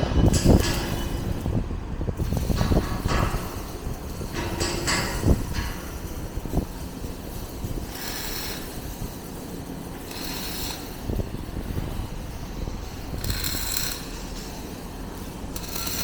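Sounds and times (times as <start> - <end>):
low machinery rumble: 0.0 - 16.0.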